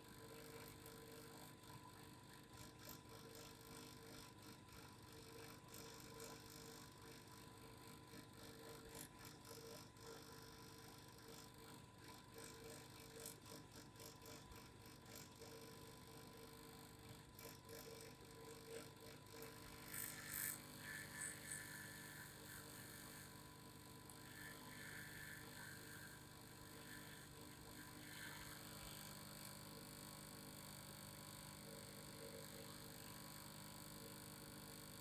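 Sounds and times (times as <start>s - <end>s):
faint vibrating hum: 0.0s - 35.0s.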